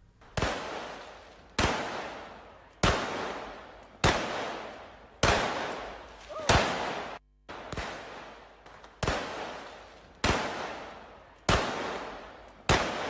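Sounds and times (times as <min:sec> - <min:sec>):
gunshots with echo: 0:00.3 - 0:13.0.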